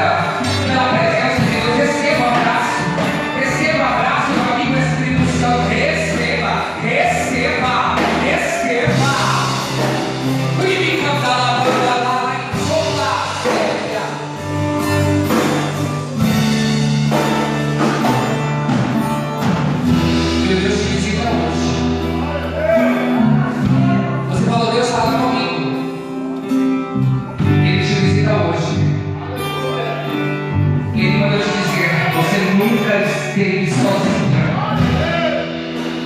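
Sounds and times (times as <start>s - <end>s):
live worship band with singing: 0.0s - 36.0s
long held bass notes: 0.0s - 36.0s.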